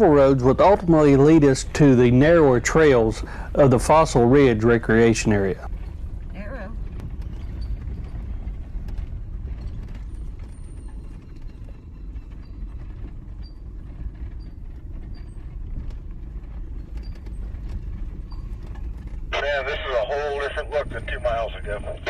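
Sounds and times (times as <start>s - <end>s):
vehicle driving on gravel: 0.0s - 6.2s, 6.8s - 22.0s
light clicks and rattles: 0.0s - 19.5s.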